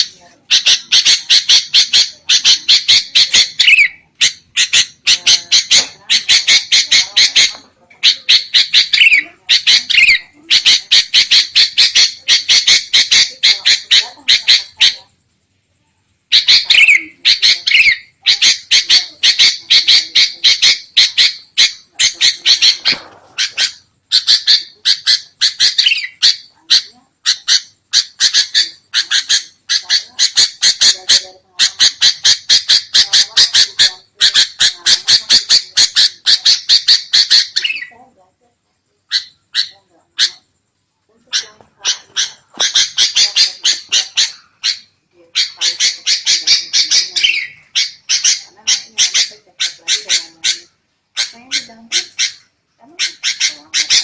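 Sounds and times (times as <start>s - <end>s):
bulbuls scolding chatter: 0.0s - 15.2s, 16.3s - 38.1s, 41.1s - 54.0s.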